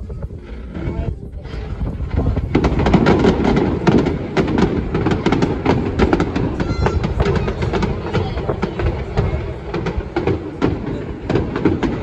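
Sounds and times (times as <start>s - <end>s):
low rumble: 0.0s - 11.2s
fireworks bangs and crackles: 0.0s - 12.0s.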